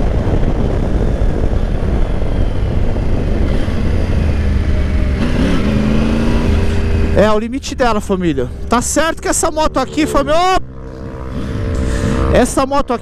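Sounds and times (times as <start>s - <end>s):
motorcycle engine: 0.0s - 13.0s
wind rush on microphone: 0.0s - 13.0s.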